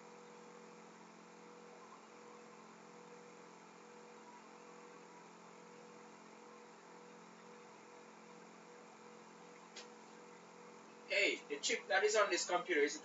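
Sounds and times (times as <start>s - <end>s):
faint steady background hum: 0.0s - 13.0s.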